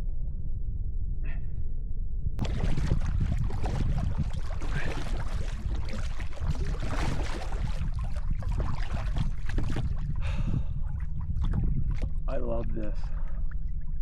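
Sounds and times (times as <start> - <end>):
wind rumble on microphone: 0.0 - 14.0
paddle splashing water: 2.4 - 14.0.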